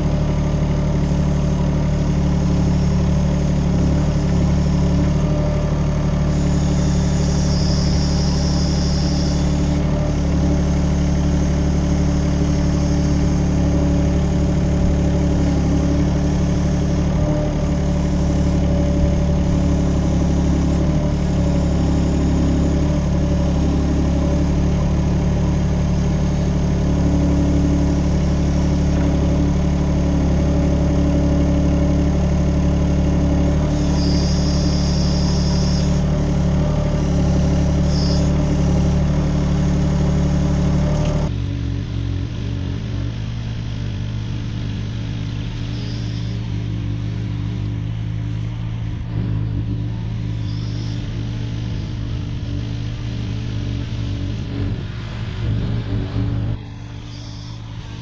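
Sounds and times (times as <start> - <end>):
mini excavator engine running: 0.0 - 58.0.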